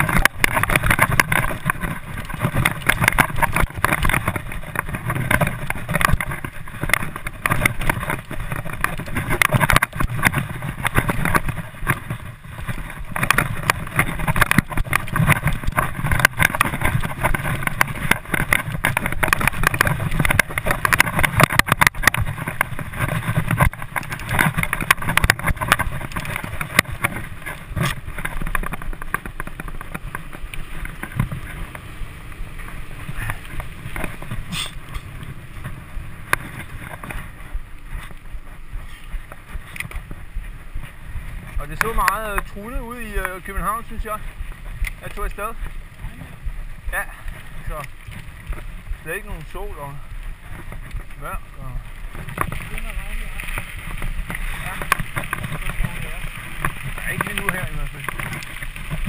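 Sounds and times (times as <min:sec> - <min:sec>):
mountain bike rattling on dirt trail: 0:00.0 - 0:59.0
wind noise on microphone: 0:00.0 - 0:59.0.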